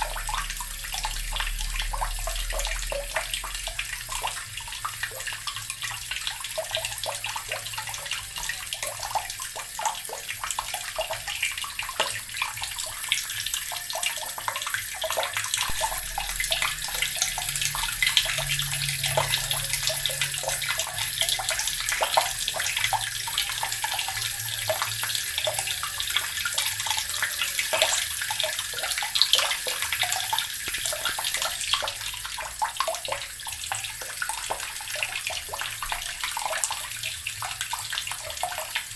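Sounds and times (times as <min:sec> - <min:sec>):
tap water splashing into basin: 0:00.0 - 0:38.9.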